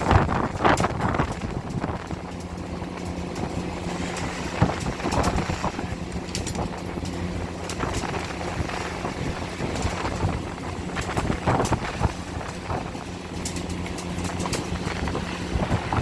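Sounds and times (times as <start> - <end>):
boat engine humming: 0.0 - 16.0
sea noise: 0.0 - 16.0
wind: 0.0 - 16.0.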